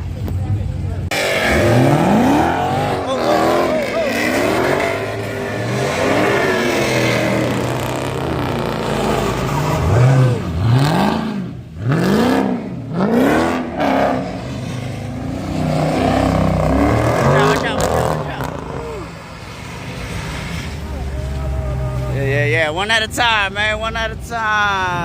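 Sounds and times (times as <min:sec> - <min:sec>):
car engine idling: 0:00.0 - 0:12.0, 0:12.6 - 0:25.0
car engine revving: 0:00.0 - 0:23.2.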